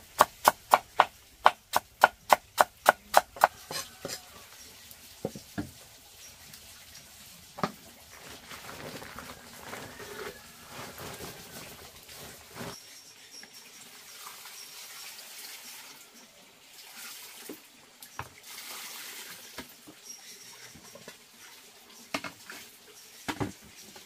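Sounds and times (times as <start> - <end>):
water trickling and splashing: 0.3 - 24.0.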